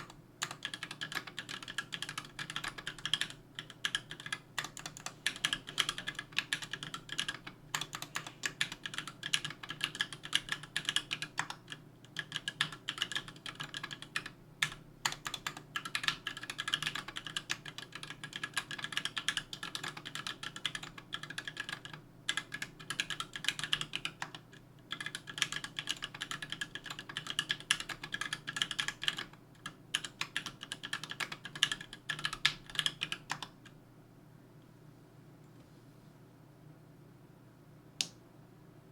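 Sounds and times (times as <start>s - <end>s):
mechanical keyboard typing: 0.0s - 33.6s.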